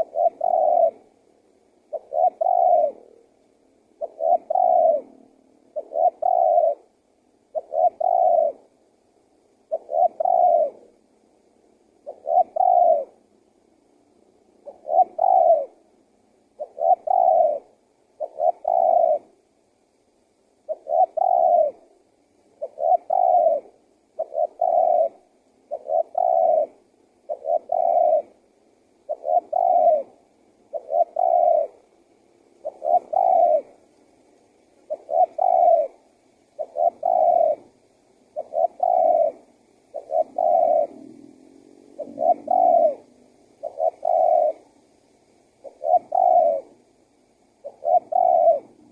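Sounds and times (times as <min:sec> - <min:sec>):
dove cooing: 0:00.0 - 0:08.8, 0:09.6 - 0:11.0, 0:12.0 - 0:13.3, 0:14.6 - 0:15.9, 0:16.5 - 0:19.4, 0:20.7 - 0:33.9, 0:34.7 - 0:44.8, 0:45.5 - 0:48.9.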